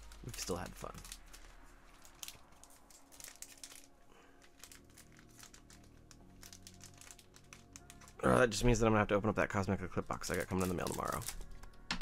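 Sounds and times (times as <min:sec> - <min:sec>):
plastic packaging crinkling: 0:00.0 - 0:08.9, 0:09.5 - 0:11.8.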